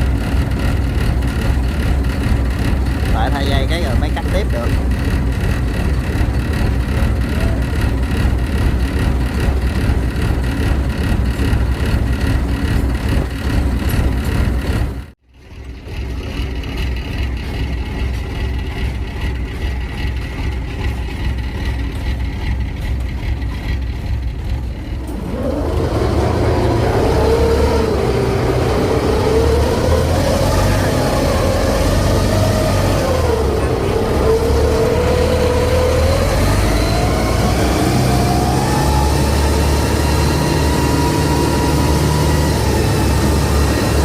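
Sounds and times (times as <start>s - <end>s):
engine revving up: 0.0s - 22.6s, 24.4s - 44.0s
farm machinery engine running: 0.0s - 44.0s.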